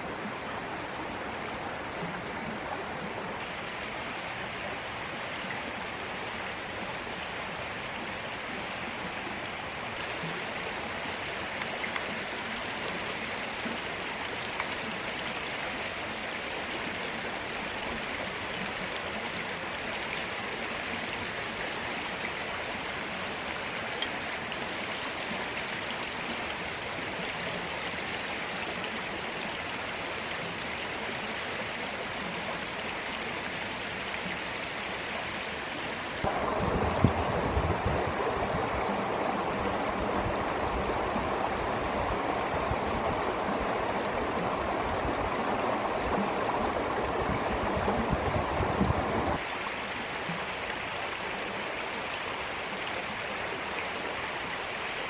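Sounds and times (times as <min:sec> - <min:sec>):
creek water flowing over stones: 0:00.0 - 0:55.0.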